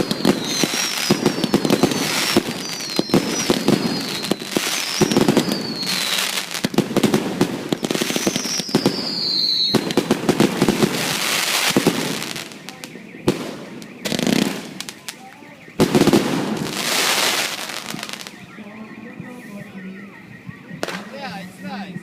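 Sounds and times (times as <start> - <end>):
fireworks crackling bangs: 0.0 - 19.9, 20.5 - 22.0
fireworks whistling: 0.0 - 22.0.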